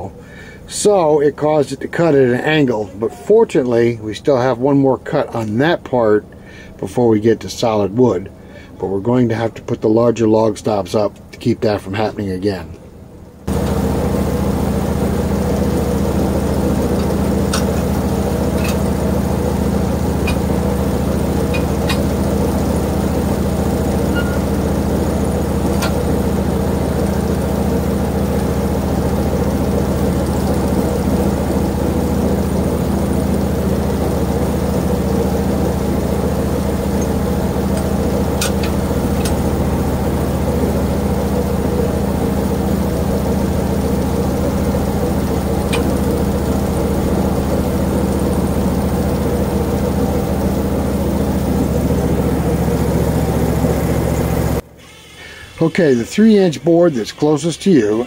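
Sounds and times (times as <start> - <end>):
sawmill engine idling: 0.0 - 58.0.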